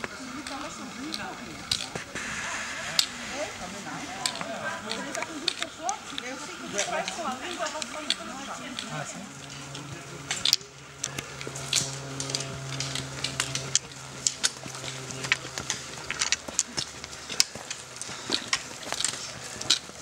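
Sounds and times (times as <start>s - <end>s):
trekking poles tapping rock: 0.0s - 2.2s, 3.9s - 20.0s
footsteps on rocky trail: 0.0s - 20.0s
steady low hum: 0.0s - 20.0s.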